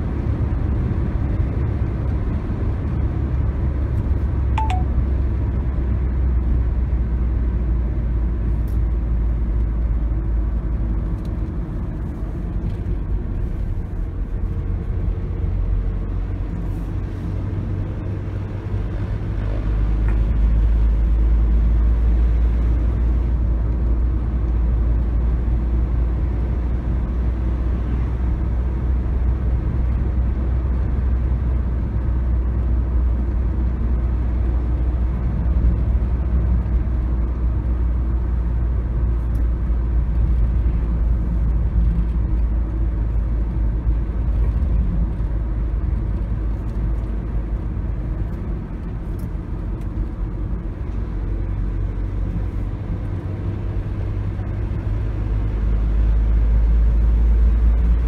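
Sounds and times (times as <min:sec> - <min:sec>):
car cabin road noise: 0:00.0 - 0:58.0.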